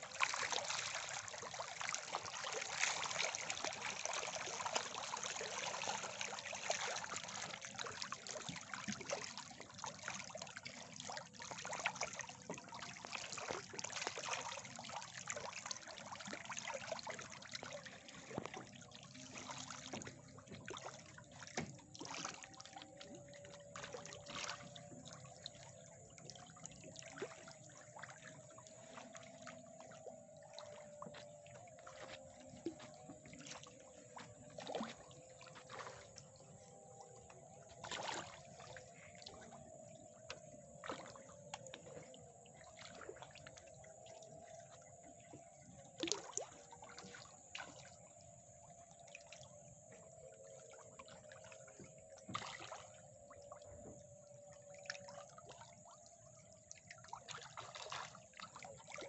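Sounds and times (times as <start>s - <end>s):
small water splashes and drips: 0.0s - 59.0s.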